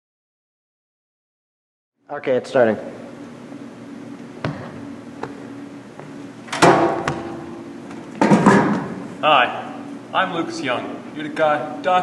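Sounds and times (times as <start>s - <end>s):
low room hum: 2.0s - 12.0s.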